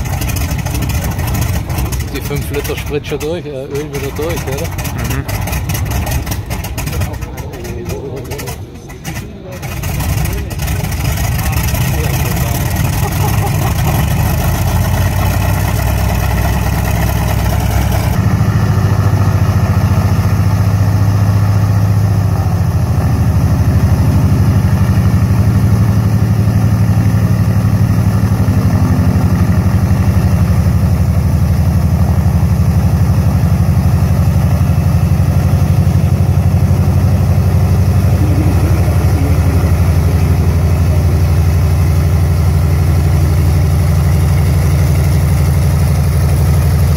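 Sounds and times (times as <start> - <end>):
radial engine running: 0.0 - 19.5, 25.1 - 46.9.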